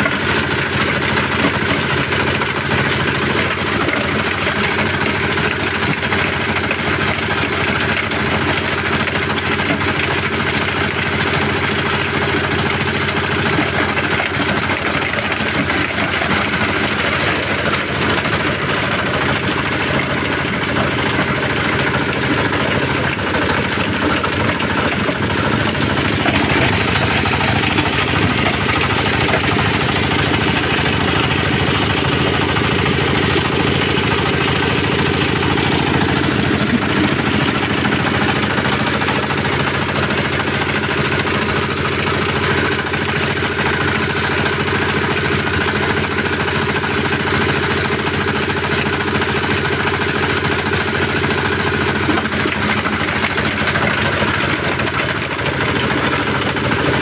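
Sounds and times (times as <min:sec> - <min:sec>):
shredder grinding fruit waste: 0:00.0 - 0:57.0
small engine running: 0:00.0 - 0:57.0.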